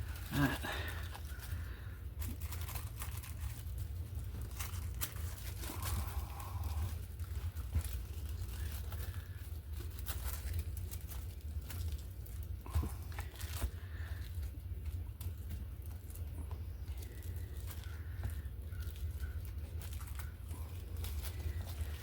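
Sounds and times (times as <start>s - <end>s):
paper rustling and crinkling: 0.0s - 22.0s
steady low hum: 0.0s - 22.0s.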